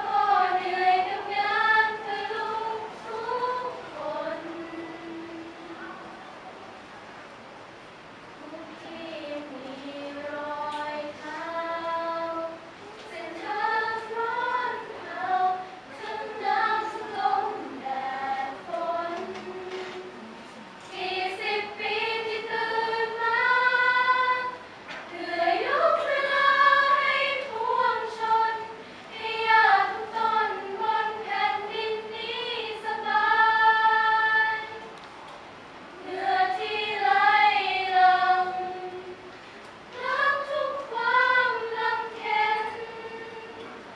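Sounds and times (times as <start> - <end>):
female choir singing in harmony: 0.0 - 6.1, 8.4 - 35.0, 36.0 - 43.9.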